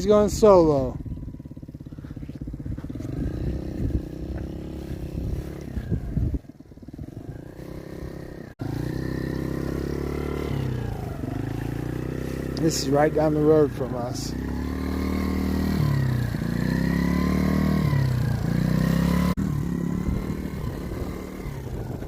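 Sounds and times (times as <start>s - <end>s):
small atv engine running: 0.0s - 22.0s.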